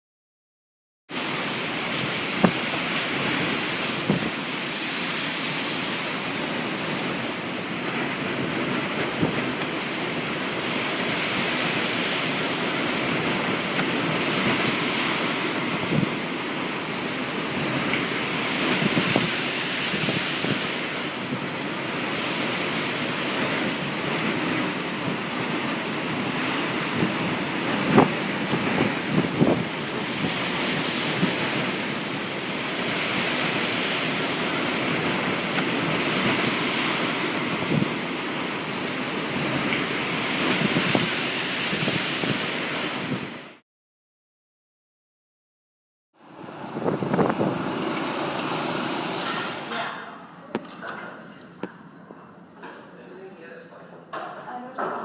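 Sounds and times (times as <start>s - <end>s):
surf pounding the shore: 1.1s - 43.6s, 46.2s - 50.4s
wind buffeting microphone: 1.5s - 43.5s, 46.5s - 49.7s.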